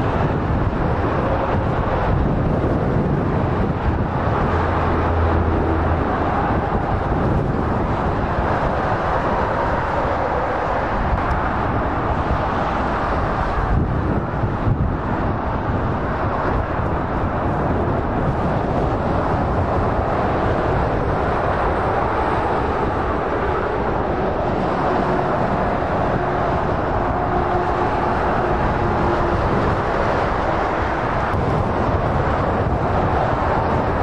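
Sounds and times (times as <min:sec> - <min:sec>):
motorway traffic passing: 0:00.0 - 0:34.0.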